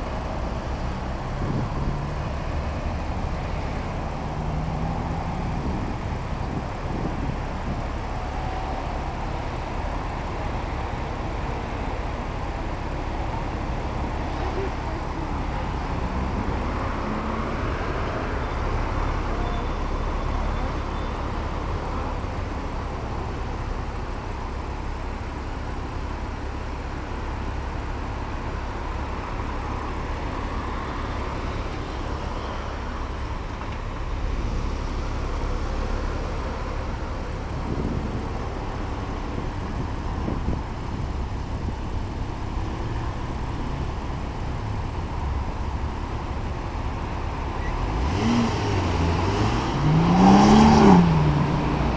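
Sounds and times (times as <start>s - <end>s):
cars idling: 0.0s - 51.9s
road traffic noise: 0.0s - 51.9s.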